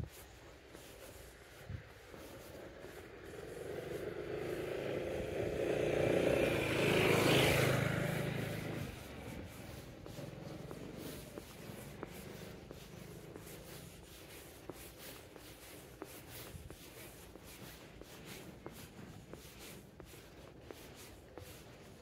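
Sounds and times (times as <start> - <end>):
faint footsteps: 0.0 - 22.0.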